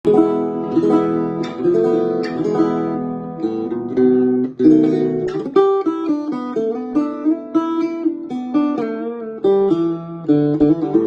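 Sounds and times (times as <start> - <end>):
acoustic guitar plucked chords: 0.0 - 11.0.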